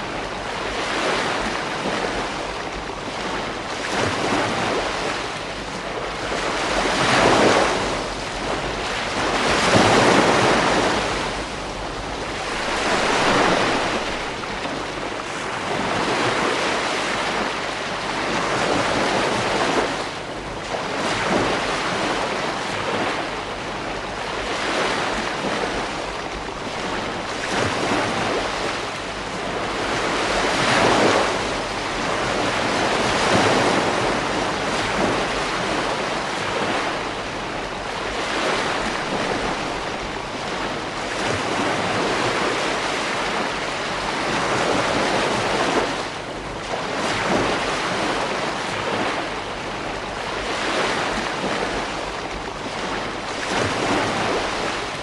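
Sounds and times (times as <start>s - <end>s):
ocean waves breaking: 0.0s - 55.0s
wind on microphone: 0.0s - 55.0s.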